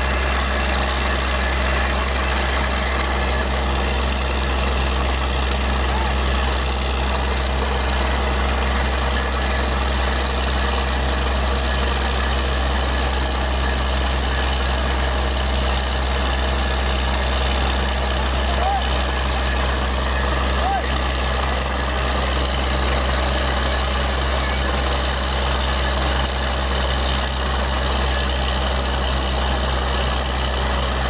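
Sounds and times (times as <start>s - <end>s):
drilling rig engine droning: 0.0s - 31.0s.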